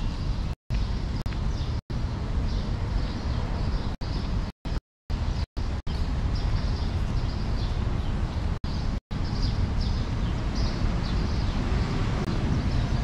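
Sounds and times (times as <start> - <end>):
birds chirping: 0.0 - 13.0
street traffic rumble: 0.0 - 13.0.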